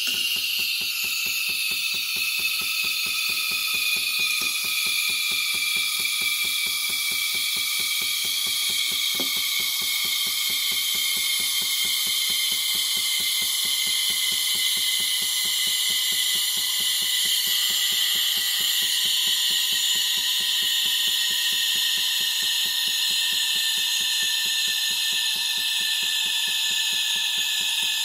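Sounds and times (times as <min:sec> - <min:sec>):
pump pulsing: 0:00.0 - 0:28.0
steam wand hissing: 0:00.0 - 0:28.0.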